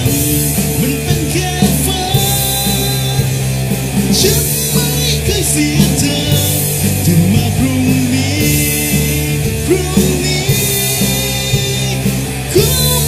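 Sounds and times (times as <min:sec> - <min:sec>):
band music with singing: 0:00.0 - 0:13.0.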